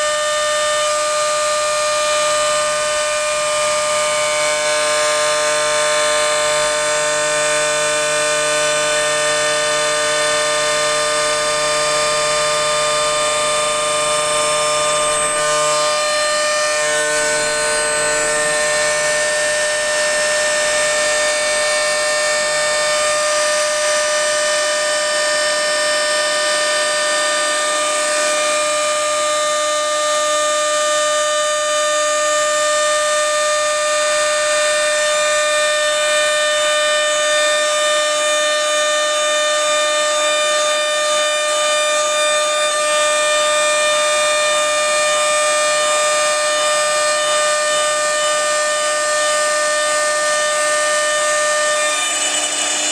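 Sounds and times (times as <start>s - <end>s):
machine spindle whine: 0.0s - 52.9s.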